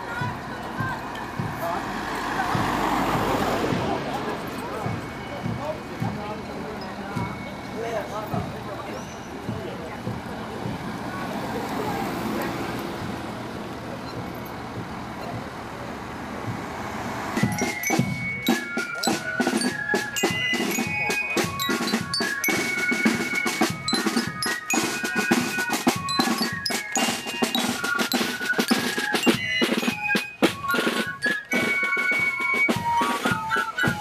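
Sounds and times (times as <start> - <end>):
marching band drums and fifes: 0.0 - 34.0
outdoor street noise: 0.0 - 34.0.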